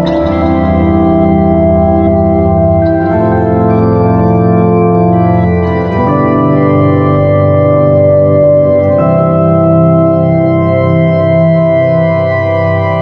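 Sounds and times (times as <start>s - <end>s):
organ-like keyboard chords: 0.0s - 13.0s.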